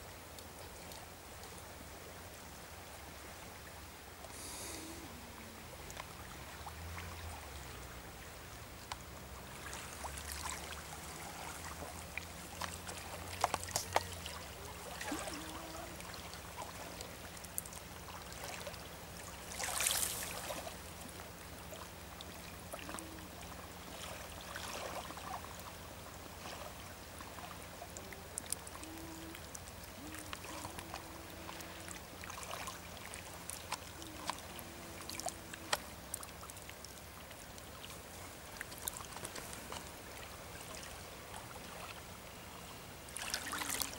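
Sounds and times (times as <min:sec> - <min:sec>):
ducks paddling and splashing: 0:00.0 - 0:43.9
faint low hum: 0:00.0 - 0:43.9
water lapping at the shore: 0:00.0 - 0:43.9.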